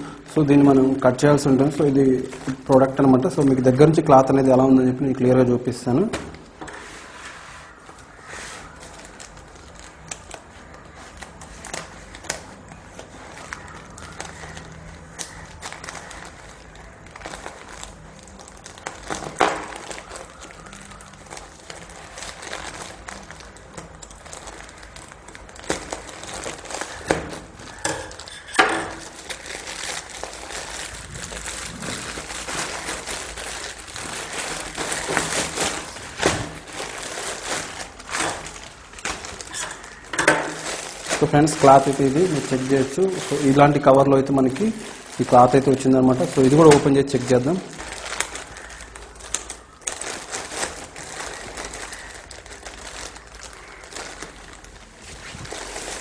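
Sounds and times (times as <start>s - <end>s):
plastic crinkling and rustling: 0.0s - 56.0s.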